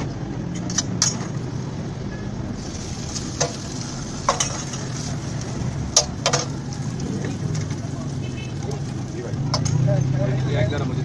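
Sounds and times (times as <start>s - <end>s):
burger sizzling on griddle: 1.4s - 10.6s.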